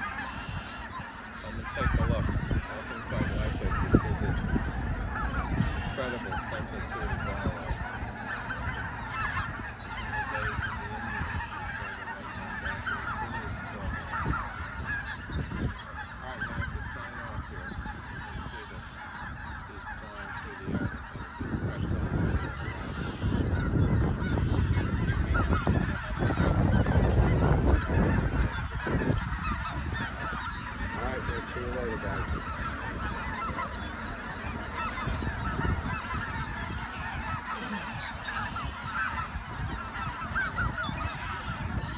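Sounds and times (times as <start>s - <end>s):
flock of geese honking: 0.0s - 41.9s.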